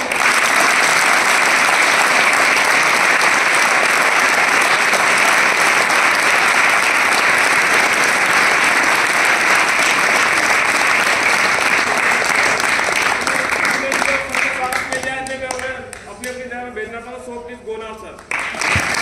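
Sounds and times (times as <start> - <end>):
crowd applauding: 0.0 - 16.4, 18.2 - 19.0.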